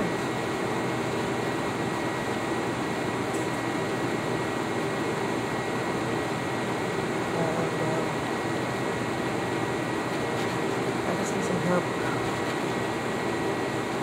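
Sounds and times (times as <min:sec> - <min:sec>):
fan hum: 0:00.0 - 0:14.0.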